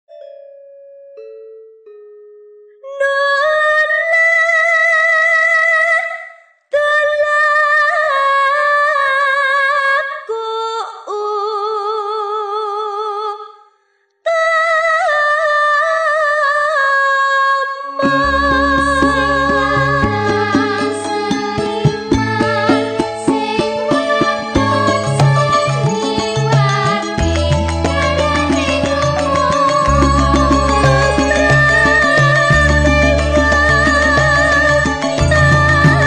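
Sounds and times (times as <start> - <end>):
woman singing unaccompanied: 2.9 - 13.5, 14.3 - 36.0.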